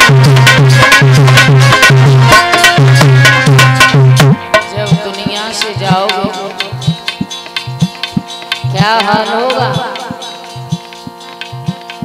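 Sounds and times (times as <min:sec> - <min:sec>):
hand drum beats: 0:00.0 - 0:12.0
wavering instrumental melody: 0:00.0 - 0:12.0.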